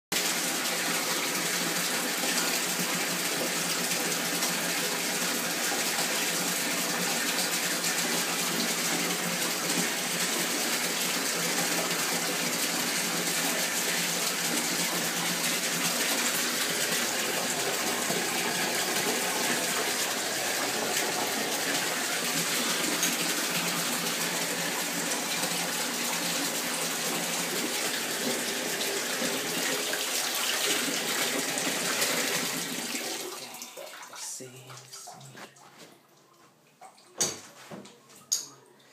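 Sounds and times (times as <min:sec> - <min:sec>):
tap running into bathtub: 0:01.0 - 0:33.2, 0:36.8 - 0:38.6.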